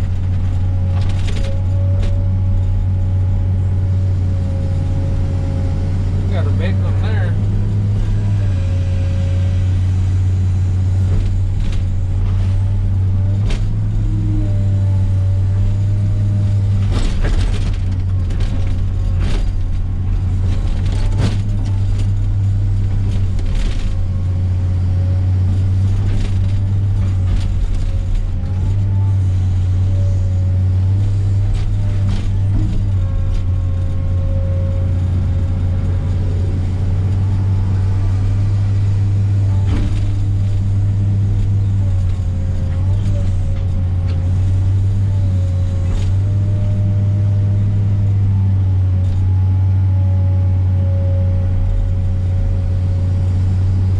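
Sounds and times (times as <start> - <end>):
diesel machine engine drone: 0.0 - 53.9.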